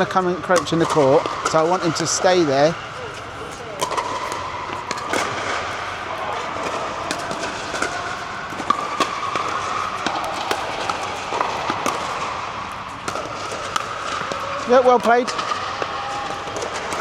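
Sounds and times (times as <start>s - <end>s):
ball bouncing: 0.0s - 17.0s
paddles striking plastic ball: 0.6s - 17.0s.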